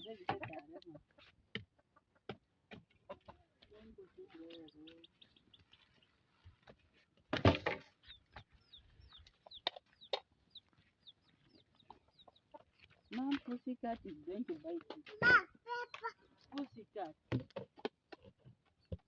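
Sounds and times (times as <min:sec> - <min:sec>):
chickens clucking: 0:00.0 - 0:07.0, 0:07.9 - 0:16.8
small birds chirping: 0:00.0 - 0:07.2, 0:07.8 - 0:19.0.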